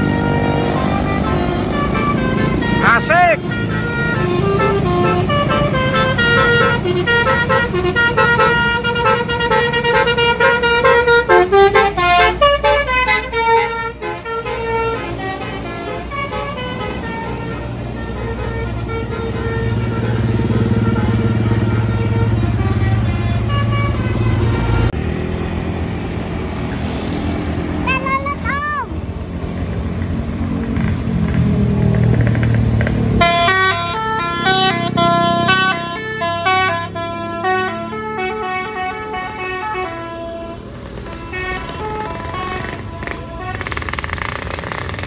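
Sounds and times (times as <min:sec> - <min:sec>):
musical truck horn: 0:00.0 - 0:25.0, 0:33.1 - 0:44.6
truck engine running: 0:00.0 - 0:45.0.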